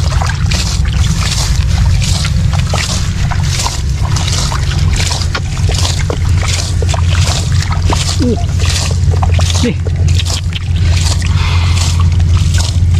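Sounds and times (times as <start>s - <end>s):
low motor drone: 0.0s - 12.9s
rhythmic water splashing: 0.0s - 12.9s.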